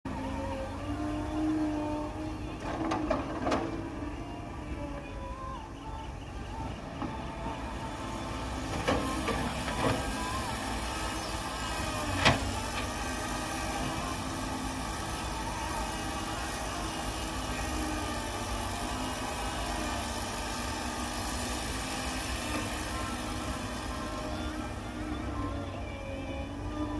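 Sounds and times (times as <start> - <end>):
diesel machinery rumbling: 0.1 - 26.9.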